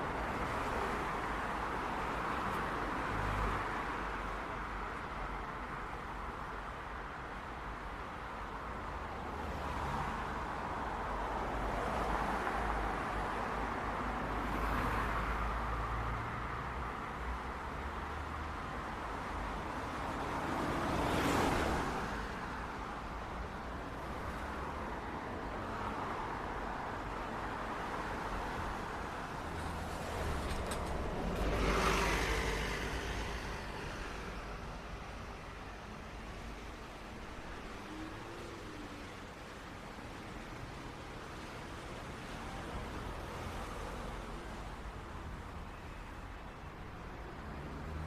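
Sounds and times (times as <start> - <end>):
street traffic: 0.0 - 48.0
vehicles passing: 0.0 - 48.0.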